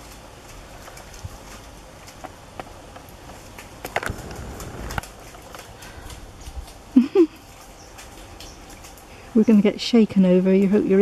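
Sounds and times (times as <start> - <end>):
dog paws splashing in muddy water: 0.0 - 11.0.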